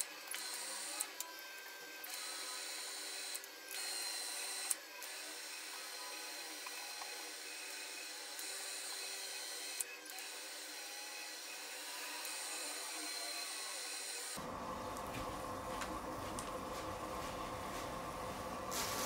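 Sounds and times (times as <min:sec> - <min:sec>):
pottery wheel whining: 0:00.0 - 0:19.0.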